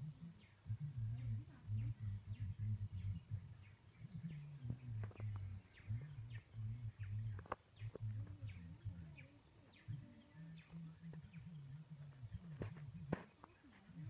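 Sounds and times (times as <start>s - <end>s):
birds chirping: 0.0s - 14.0s
low uneven hum: 0.0s - 14.0s.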